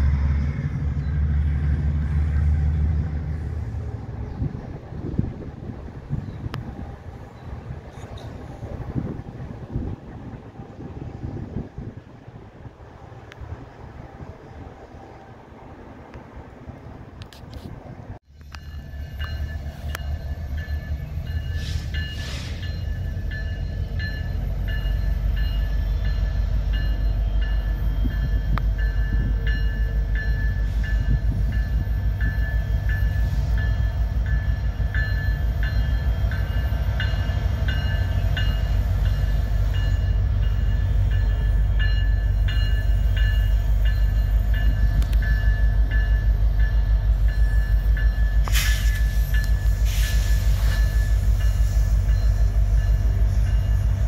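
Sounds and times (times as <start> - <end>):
diesel locomotive rumble: 0.0 - 54.0.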